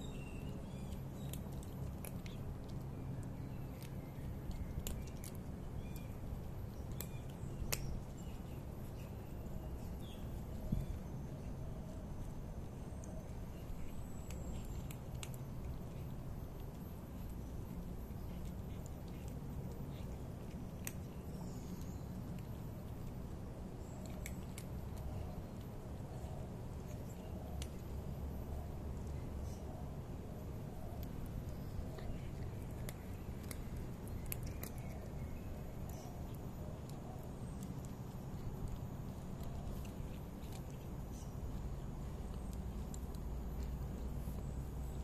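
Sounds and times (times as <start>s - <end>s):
low background rumble: 0.0s - 45.0s
cat crunching dry kibble: 0.4s - 45.0s.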